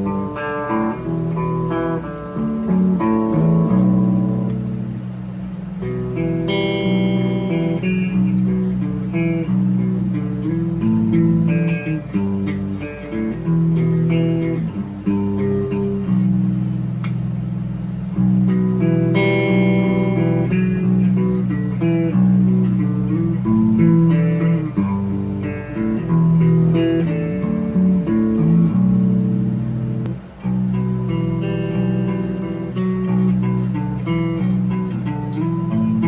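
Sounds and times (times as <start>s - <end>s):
electric guitar playing riffs: 0.0s - 36.0s.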